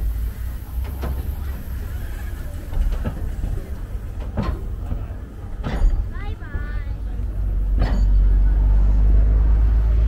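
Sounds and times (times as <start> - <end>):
murmur of voices: 0.0 - 10.0.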